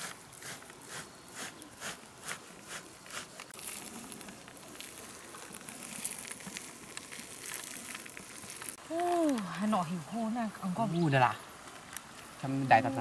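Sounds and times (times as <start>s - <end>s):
high crackling hiss: 0.0s - 13.0s.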